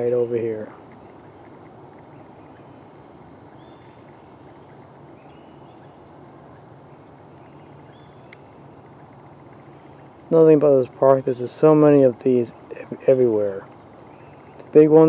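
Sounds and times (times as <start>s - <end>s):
faint bird chirps: 0.0s - 10.3s, 12.3s - 14.8s
low outdoor rumble: 0.0s - 15.0s.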